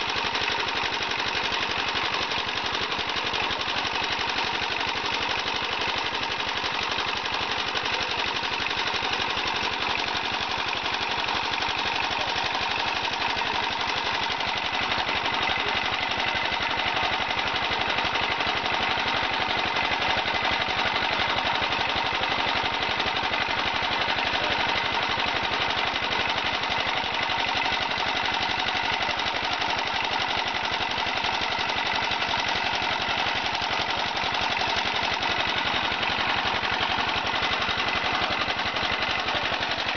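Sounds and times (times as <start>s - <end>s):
charcoal machine rattling: 0.0s - 39.9s.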